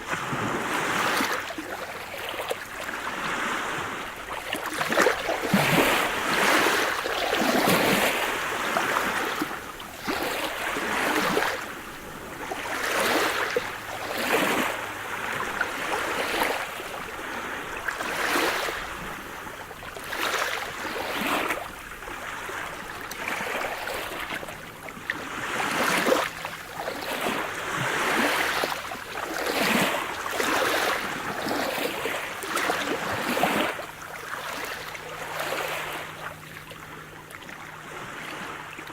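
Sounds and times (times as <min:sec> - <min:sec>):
waves breaking on a shore: 0:00.0 - 0:38.9.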